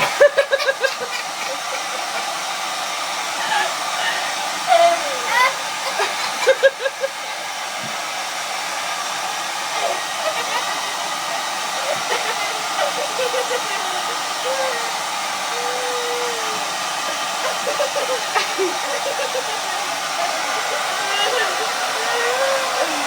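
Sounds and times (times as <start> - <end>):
hair dryer blowing: 0.0 - 23.0.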